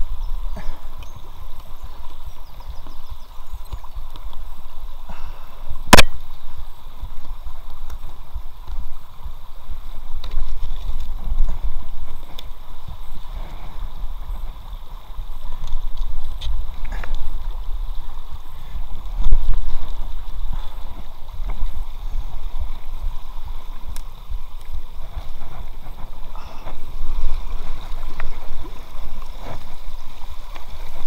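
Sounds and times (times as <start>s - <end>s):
brook water rushing and gurgling: 0.0s - 31.0s.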